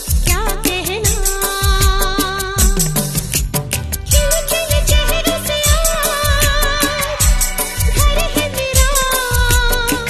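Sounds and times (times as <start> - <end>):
steady drum beat: 0.0 - 10.0.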